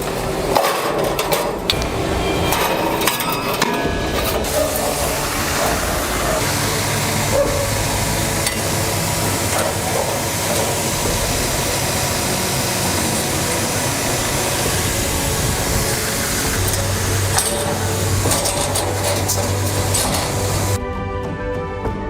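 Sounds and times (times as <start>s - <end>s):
low hum: 1.7s - 20.8s
machinery hiss: 1.7s - 20.8s.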